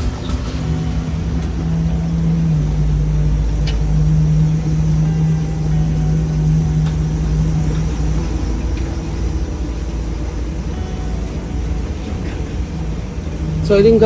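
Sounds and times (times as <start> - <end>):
bus engine hum: 0.0 - 14.0
low road rumble: 0.0 - 14.0.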